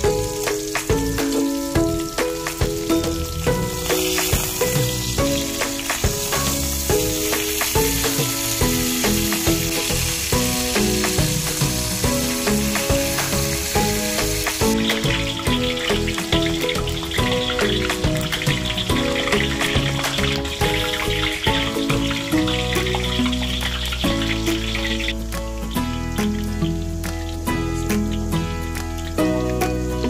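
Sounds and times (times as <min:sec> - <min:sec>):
background music melody: 0:00.0 - 0:30.0
chicken sizzling in hot oil: 0:00.0 - 0:30.0
sausages bubbling in deep oil: 0:00.0 - 0:30.0.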